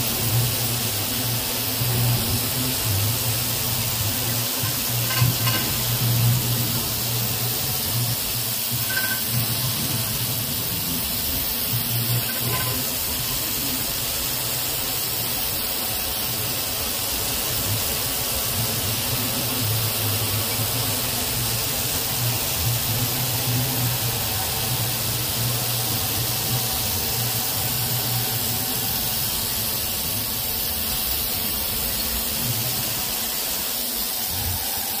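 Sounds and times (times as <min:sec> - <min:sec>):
air blast hissing: 0:00.0 - 0:35.0.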